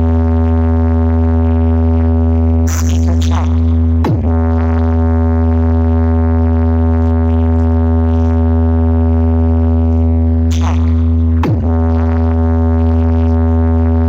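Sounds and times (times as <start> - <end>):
loudspeaker low test tone: 0.0 - 14.0.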